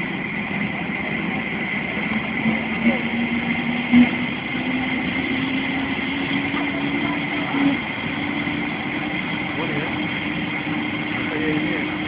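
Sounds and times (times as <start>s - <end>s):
helicopter turbine whine: 0.0s - 12.0s
low hum rising in pitch: 0.0s - 12.0s.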